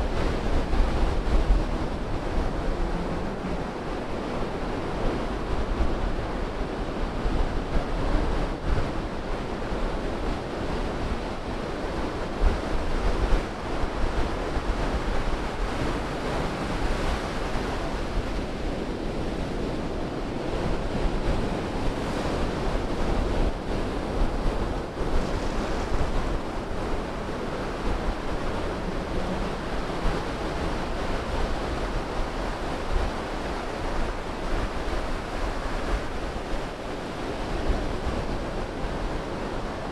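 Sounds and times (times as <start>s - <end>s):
ocean surf breaking: 0.0s - 39.9s
waves washing over wet sand: 0.0s - 39.9s.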